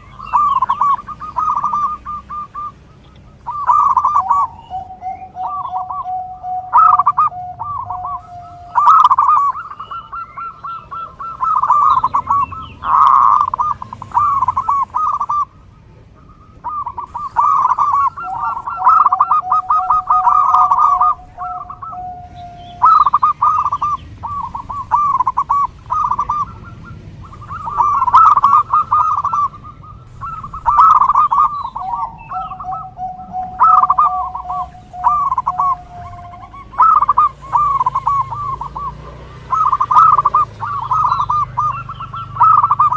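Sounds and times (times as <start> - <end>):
long steady tone: 0.0 - 38.9
dove cooing: 0.0 - 42.9.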